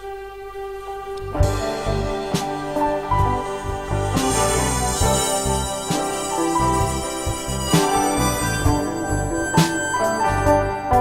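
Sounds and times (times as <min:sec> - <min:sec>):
held chord: 0:00.0 - 0:11.0
band playing with low beats: 0:01.3 - 0:11.0.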